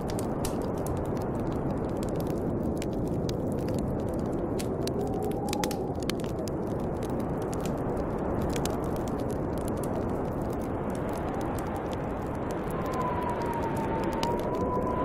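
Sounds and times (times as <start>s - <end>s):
snowstorm wind whistling: 0.0s - 15.0s
wood fire crackling: 0.0s - 15.0s.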